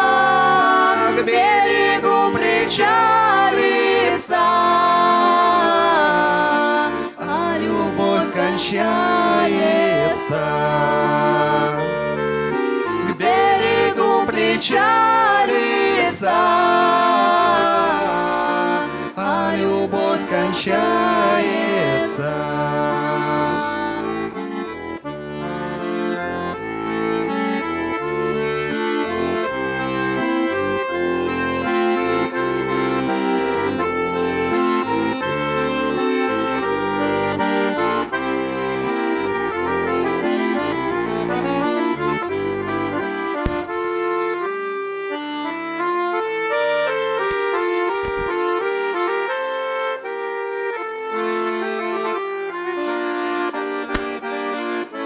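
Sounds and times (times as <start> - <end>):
accordion folk melody: 0.0 - 55.0.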